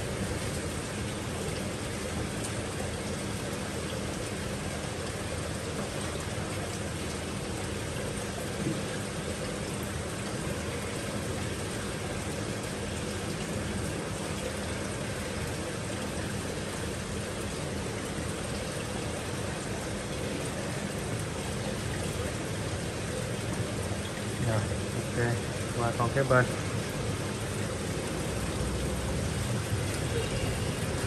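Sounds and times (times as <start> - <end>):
rushing falling water: 0.0 - 31.0.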